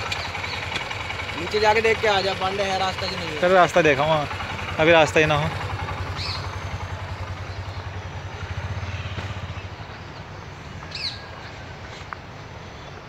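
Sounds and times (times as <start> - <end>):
small engine pulsing: 0.0 - 11.9.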